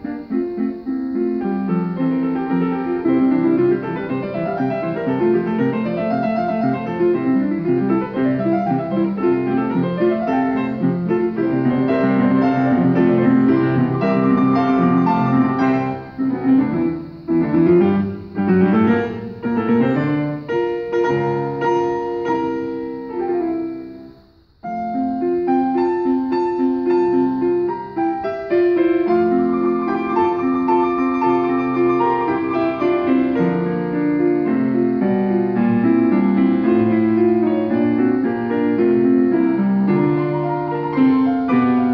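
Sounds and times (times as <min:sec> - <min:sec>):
two pianos playing classical duet: 0:00.0 - 0:41.9.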